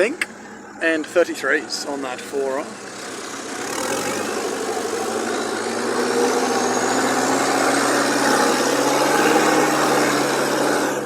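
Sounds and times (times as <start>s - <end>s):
off-road engine revving under load: 1.7s - 11.0s.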